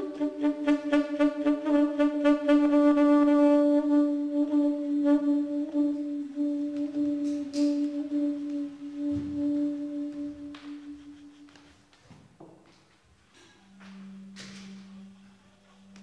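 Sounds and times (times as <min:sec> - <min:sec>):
long held note: 0:00.0 - 0:11.6, 0:13.3 - 0:16.0.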